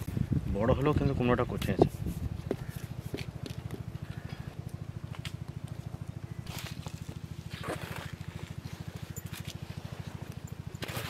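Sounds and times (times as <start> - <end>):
small engine running: 2.0 - 11.0.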